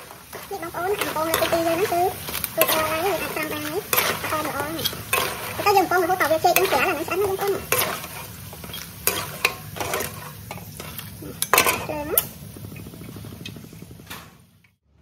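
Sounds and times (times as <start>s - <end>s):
metal utensils scraping a pan: 0.0s - 12.3s
oil sizzling in a wok: 0.0s - 14.6s.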